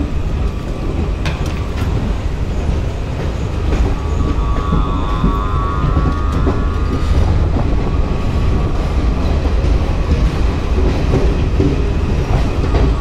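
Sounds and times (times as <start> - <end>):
rumble of train wheels on rails: 0.0 - 13.0.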